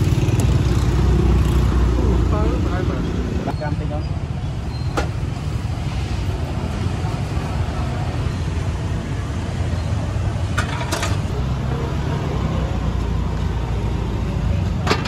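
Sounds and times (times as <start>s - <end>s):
motorbike engines: 0.0s - 15.0s
street traffic rumble: 0.0s - 15.0s.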